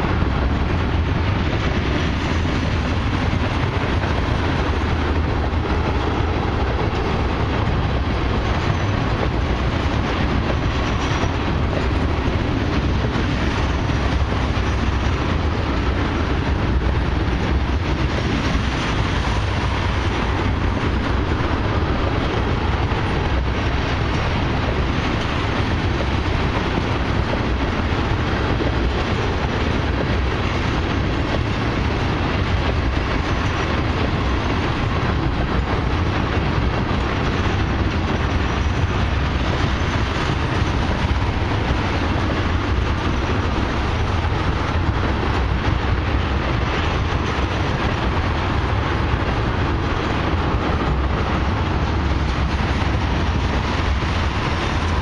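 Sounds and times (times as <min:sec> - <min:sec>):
freight train wheels rushing on rail: 0:00.0 - 0:55.0.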